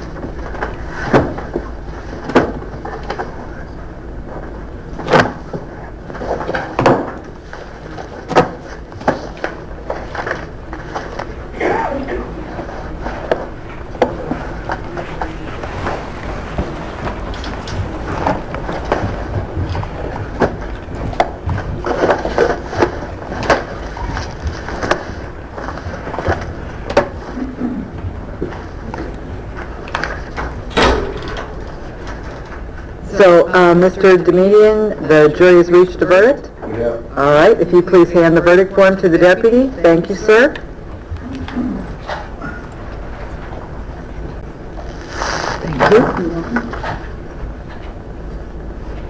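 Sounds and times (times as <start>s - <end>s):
low room noise: 0.0s - 49.0s.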